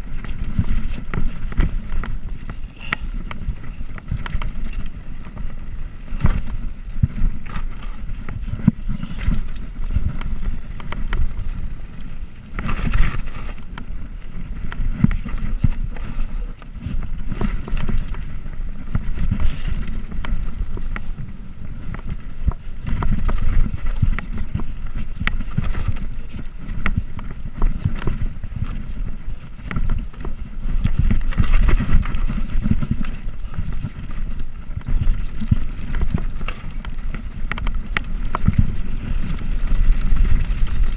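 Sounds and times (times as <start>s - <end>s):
bicycle rattles and knocks: 0.0s - 40.9s
wind rumbling on microphone: 0.0s - 40.9s.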